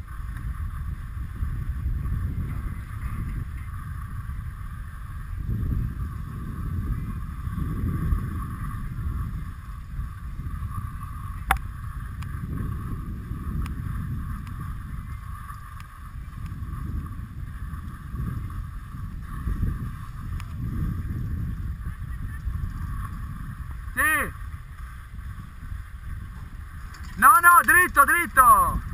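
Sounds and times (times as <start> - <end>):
skis sliding over packed snow: 0.0 - 28.7
wind rumbling on microphone: 0.0 - 28.9.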